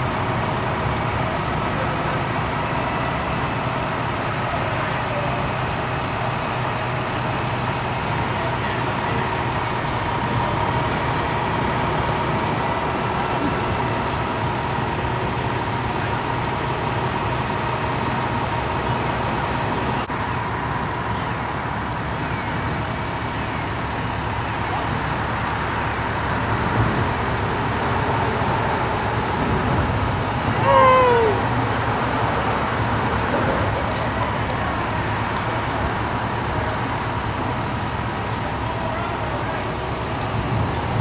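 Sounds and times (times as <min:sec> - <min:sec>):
engine and traffic noise: 0:00.0 - 0:41.0.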